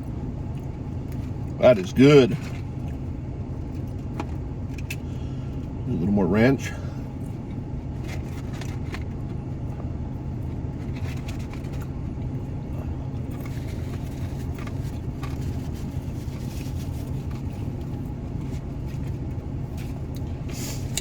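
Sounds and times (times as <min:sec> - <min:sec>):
car engine idling: 0:00.0 - 0:21.0
food handling clicks and rustles: 0:00.5 - 0:05.1, 0:07.4 - 0:09.8, 0:10.4 - 0:12.6, 0:13.2 - 0:21.0.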